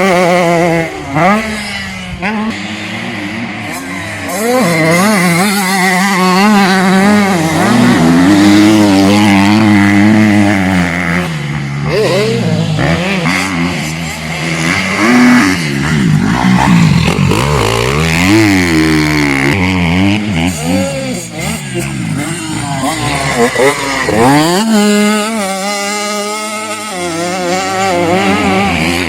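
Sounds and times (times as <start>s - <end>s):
motocross bike engine revving: 0.0s - 29.0s
second engine passing: 0.0s - 29.0s.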